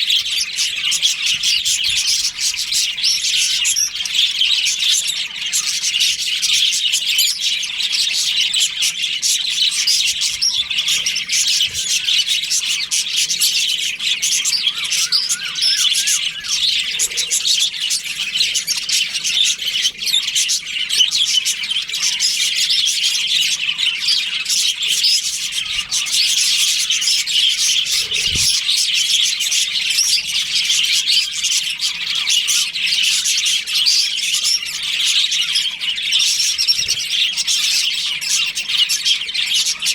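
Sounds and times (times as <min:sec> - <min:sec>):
budgerigars chattering: 0:00.0 - 0:39.9
harsh bird squawk: 0:00.0 - 0:39.9.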